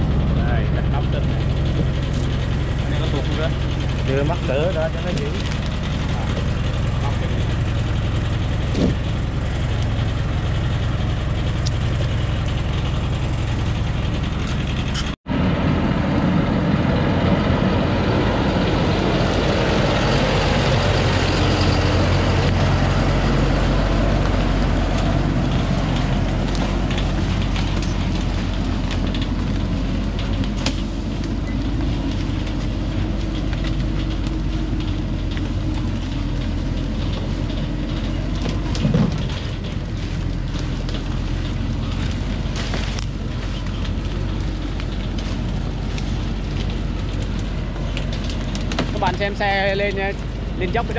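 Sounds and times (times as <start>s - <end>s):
diesel truck engine: 0.0s - 50.9s.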